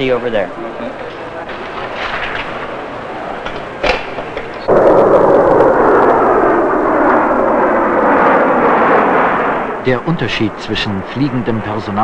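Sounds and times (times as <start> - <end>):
jet engines roaring: 0.5 - 12.0.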